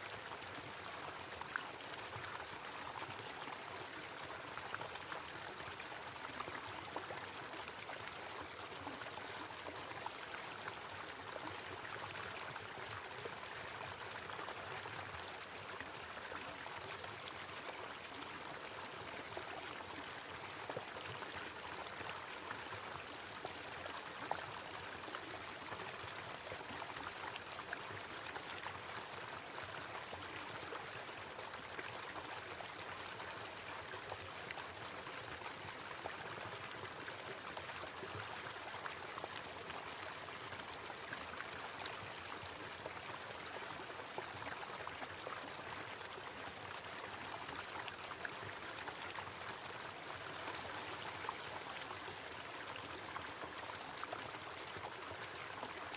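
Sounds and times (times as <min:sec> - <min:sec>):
small waterfall splashing: 0:00.0 - 0:55.9.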